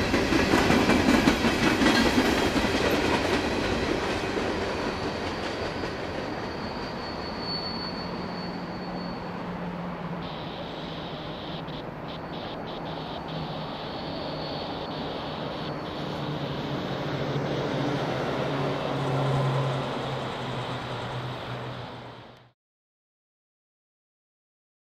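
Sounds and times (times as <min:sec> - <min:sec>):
train cars rolling on rails: 0:00.0 - 0:22.4.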